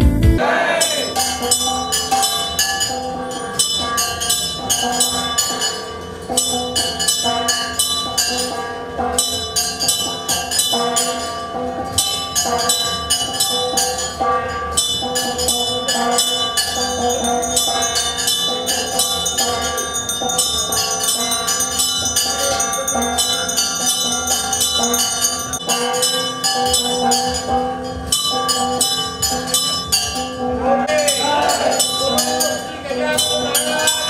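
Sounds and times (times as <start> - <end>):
temple bells ringing: 0.4 - 34.0.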